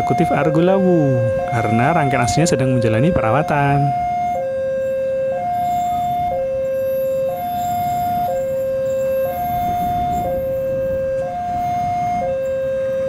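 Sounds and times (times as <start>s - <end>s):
diesel locomotive rumble: 0.0s - 13.0s
two-tone electronic alarm: 0.0s - 13.0s.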